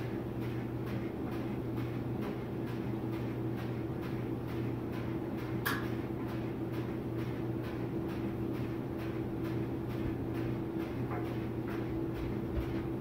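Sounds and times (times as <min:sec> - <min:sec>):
furnace motor humming: 0:00.0 - 0:13.0.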